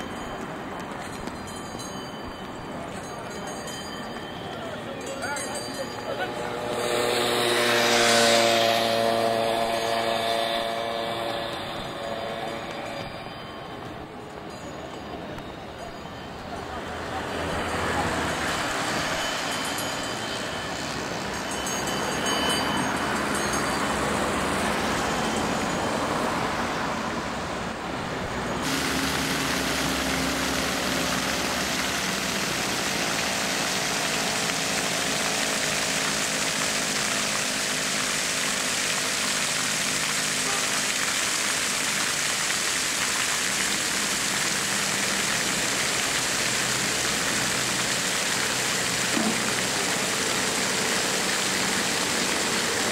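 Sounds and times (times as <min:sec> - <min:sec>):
fountain jets splashing: 0:00.0 - 0:52.9
cars driving past: 0:05.7 - 0:14.2, 0:16.6 - 0:52.9.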